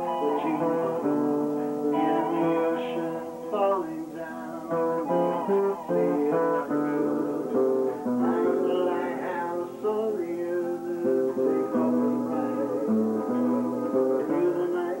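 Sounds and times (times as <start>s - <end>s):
lap steel slide guitar: 0.0s - 15.0s.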